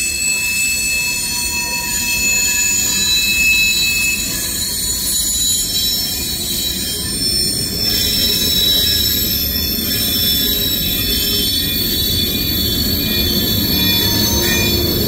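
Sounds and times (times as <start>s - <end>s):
high-pitched wheel squeals: 0.0s - 15.0s
train wheels rumbling on rails: 0.0s - 15.0s.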